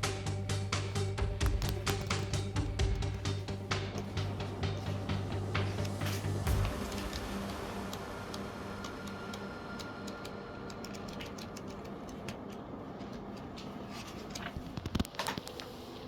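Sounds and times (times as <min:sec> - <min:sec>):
dehumidifier whirring: 0:00.0 - 0:16.0.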